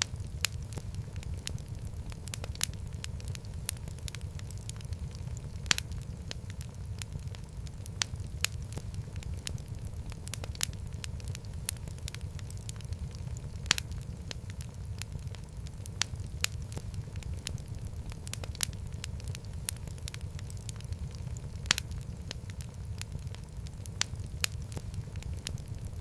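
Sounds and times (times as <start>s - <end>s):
low rumble of flame: 0.0s - 26.0s
sharp fire pops: 0.0s - 26.0s
wood fire crackling: 0.0s - 26.0s.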